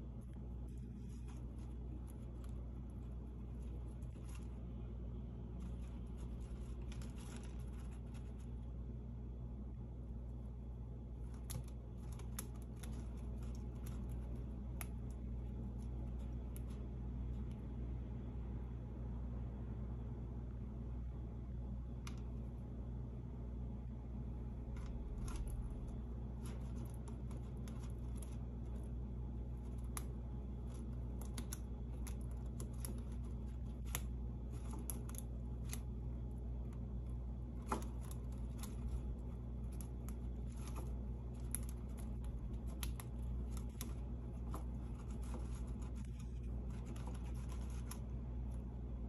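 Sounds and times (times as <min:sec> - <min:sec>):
chinchilla gnawing chew toy: 0:00.0 - 0:18.2, 0:23.8 - 0:49.0
steady low hum: 0:00.0 - 0:49.0.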